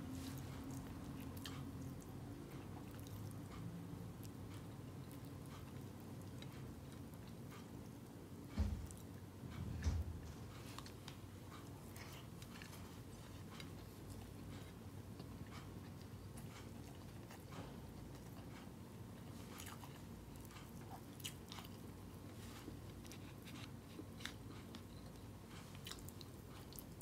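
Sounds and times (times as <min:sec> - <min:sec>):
low steady hum: 0:00.0 - 0:27.0
person chewing food: 0:00.2 - 0:08.1, 0:10.8 - 0:27.0.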